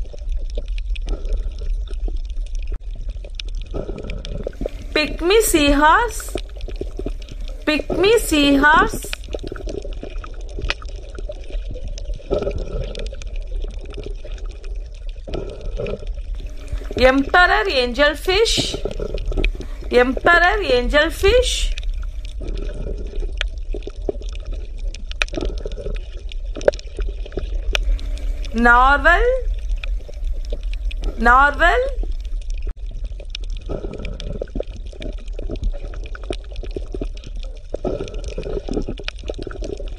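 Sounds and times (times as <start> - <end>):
underwater clicks and crackles: 0.0 - 28.6, 29.4 - 31.2, 31.9 - 39.9
water gurgles: 0.0 - 39.9.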